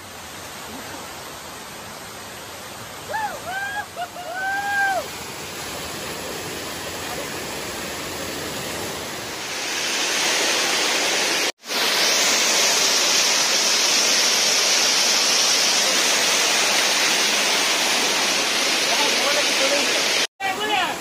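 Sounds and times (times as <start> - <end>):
waterfall splashing over rock: 0.0 - 21.0.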